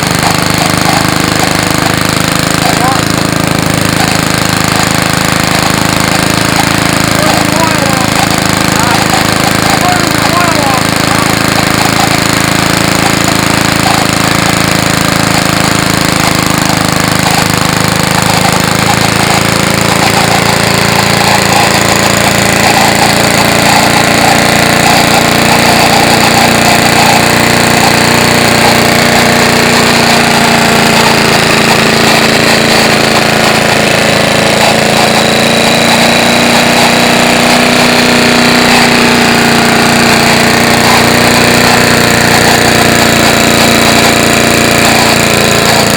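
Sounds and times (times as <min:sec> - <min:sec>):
lawn mower engine idling: 0:00.0 - 0:45.9.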